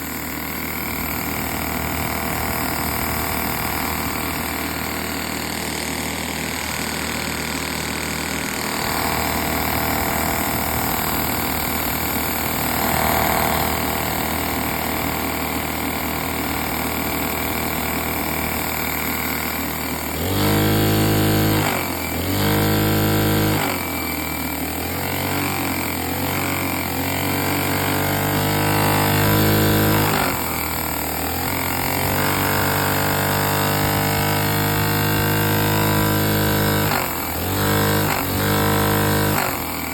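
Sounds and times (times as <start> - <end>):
small engine mechanical whir: 0.0 - 39.9.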